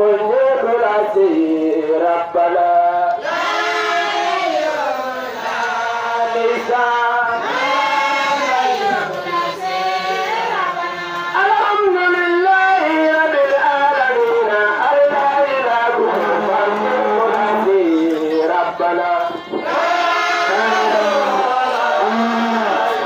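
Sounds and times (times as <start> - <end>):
group chanting religious song: 0.0 - 23.0.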